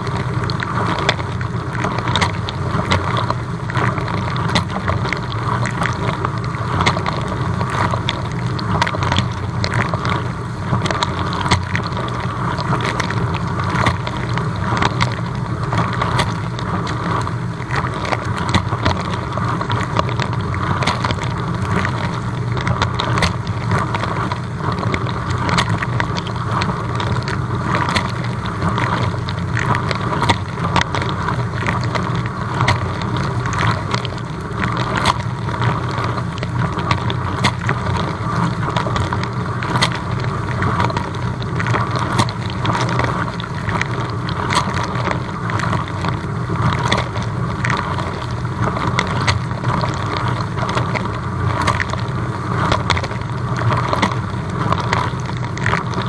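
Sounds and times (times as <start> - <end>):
pump humming: 0.0 - 56.0.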